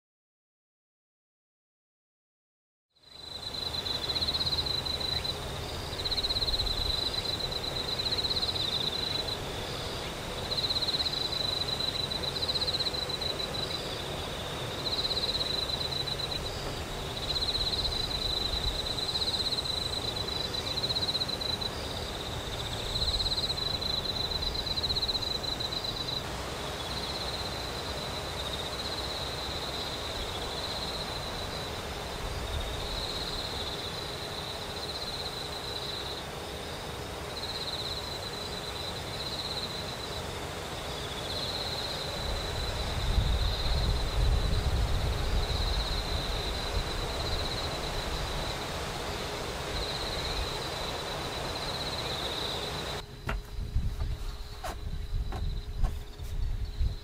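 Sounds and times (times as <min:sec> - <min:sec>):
cicadas buzzing: 0:03.0 - 0:57.0.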